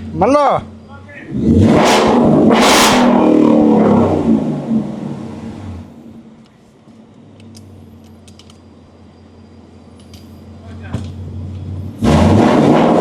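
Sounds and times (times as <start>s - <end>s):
car engine idling: 0.0s - 12.1s.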